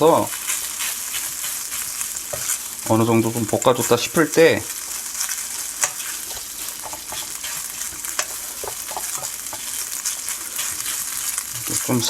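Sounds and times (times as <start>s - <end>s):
rice sizzling in a frying pan: 0.0s - 12.0s
utensil scraping a pan: 0.0s - 12.0s.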